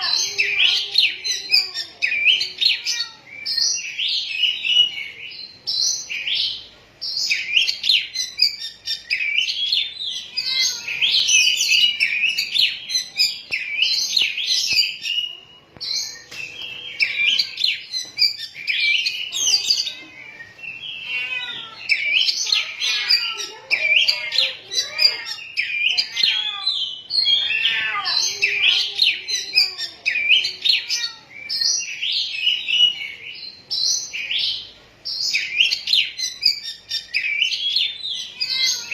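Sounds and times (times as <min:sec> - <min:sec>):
bird singing whistles and trills: 0:00.1 - 0:38.9.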